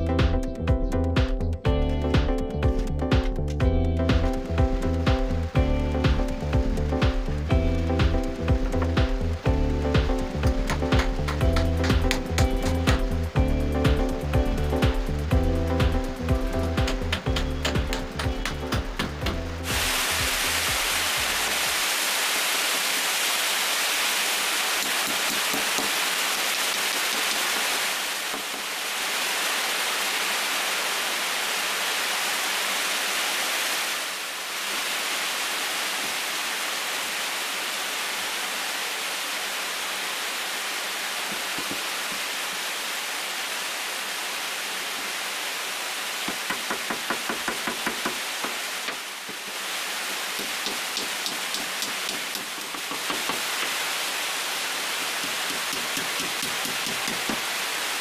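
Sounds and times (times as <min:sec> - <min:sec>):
steady loud hiss: 0:04.2 - 0:58.0.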